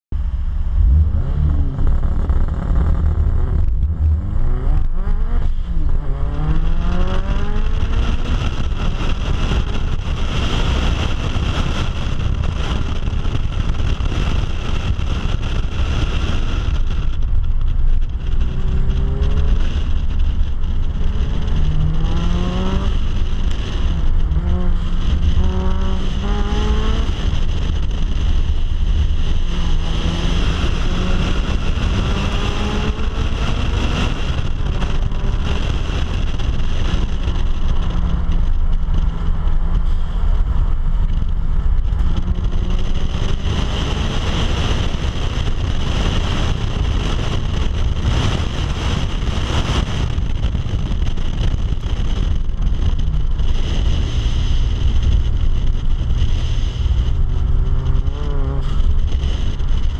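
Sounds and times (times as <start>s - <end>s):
car engine revving: 0.2s - 59.9s.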